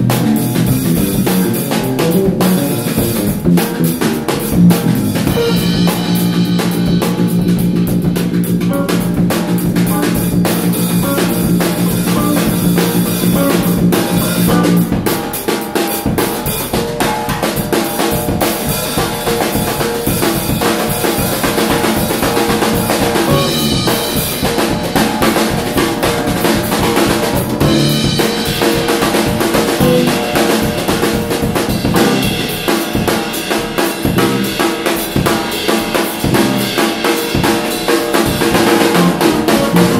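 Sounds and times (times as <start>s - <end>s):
live band instrumental groove: 0.0s - 39.9s
snare and bass drum hits: 0.0s - 39.9s.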